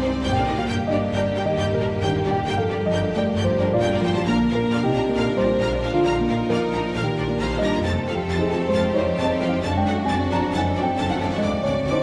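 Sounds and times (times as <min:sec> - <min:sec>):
soft melodic instrumental music: 0:00.0 - 0:12.0.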